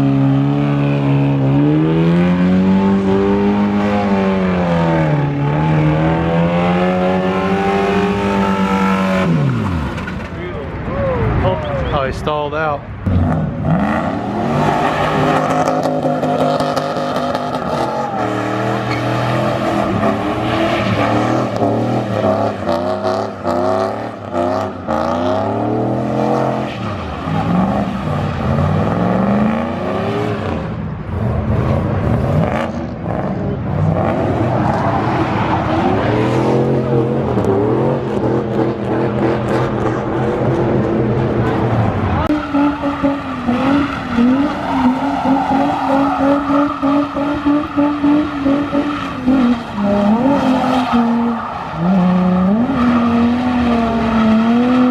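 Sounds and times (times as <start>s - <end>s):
cars accelerating away: 0.0s - 10.3s, 13.0s - 54.9s
car engines revving: 0.0s - 54.9s.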